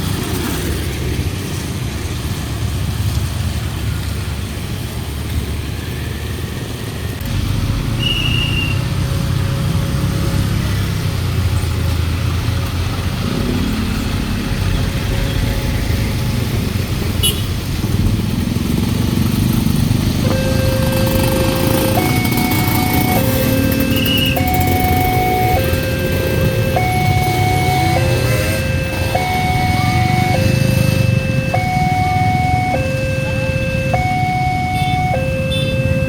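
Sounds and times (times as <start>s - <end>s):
motorcycle and car engines passing: 0.0s - 36.0s.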